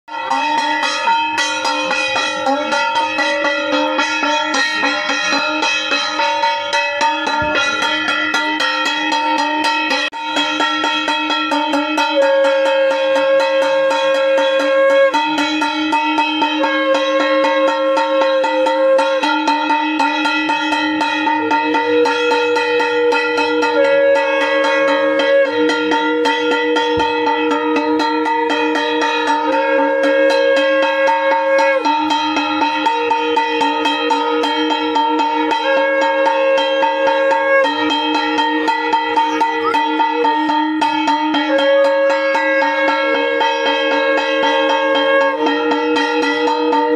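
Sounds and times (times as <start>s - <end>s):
melody of held notes: 0.1s - 46.9s.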